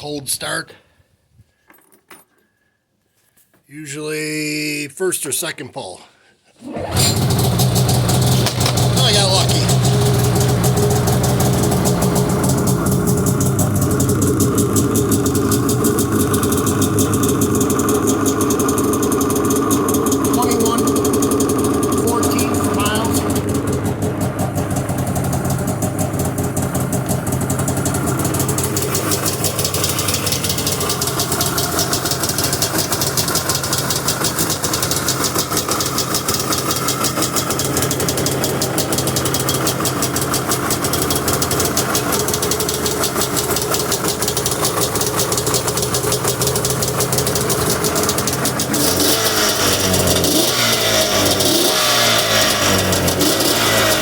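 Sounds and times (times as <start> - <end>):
snowmobile engine idling: 6.8 - 54.0.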